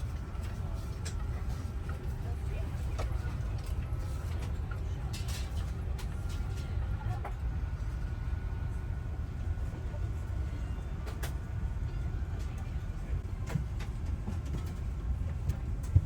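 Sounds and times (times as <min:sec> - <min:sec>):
low aircraft cabin rumble: 0:00.0 - 0:16.0.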